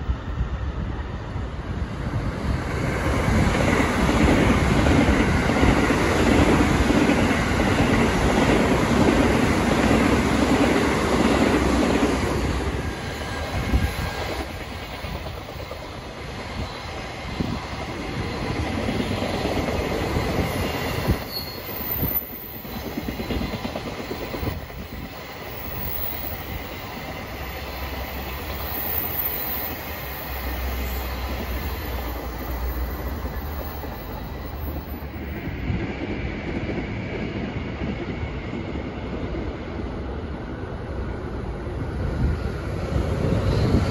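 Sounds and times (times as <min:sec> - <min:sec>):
electric train running past: 0:00.0 - 0:43.9
freight train rumbling: 0:00.0 - 0:43.9.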